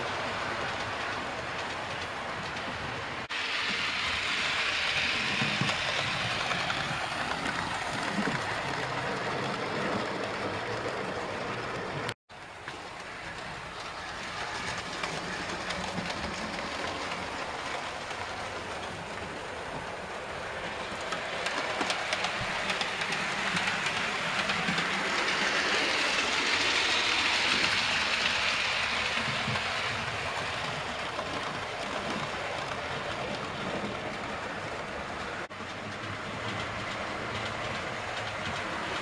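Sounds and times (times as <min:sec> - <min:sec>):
model train whirring and rumbling: 0:00.0 - 0:39.0.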